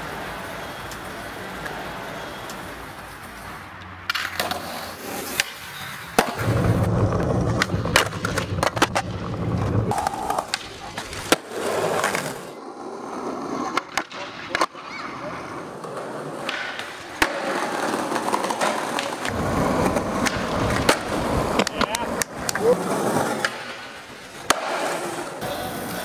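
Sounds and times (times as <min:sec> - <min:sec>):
skateboard clacks: 0:00.0 - 0:26.0
skateboard wheels rolling on pavement: 0:00.0 - 0:26.0.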